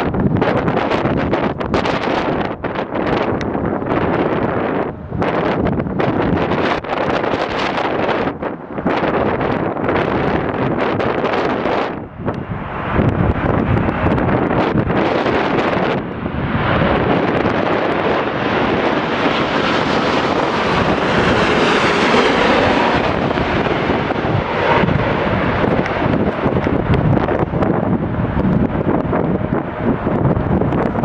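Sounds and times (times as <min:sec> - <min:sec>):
jet airliner passing: 0:00.0 - 0:31.0
wind buffeting microphone: 0:00.0 - 0:31.0.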